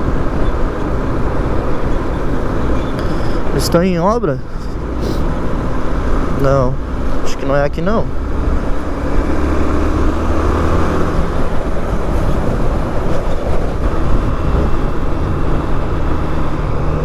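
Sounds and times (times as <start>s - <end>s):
road noise: 0.0s - 17.0s
wind noise: 0.0s - 17.0s.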